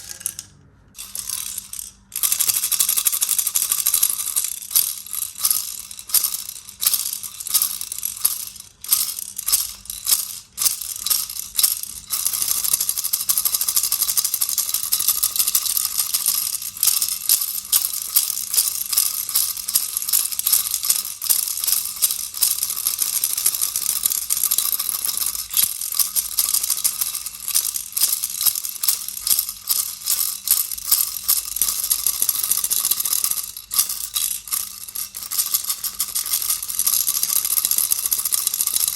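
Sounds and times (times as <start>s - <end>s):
toy rattle shaking: 0.0s - 38.9s.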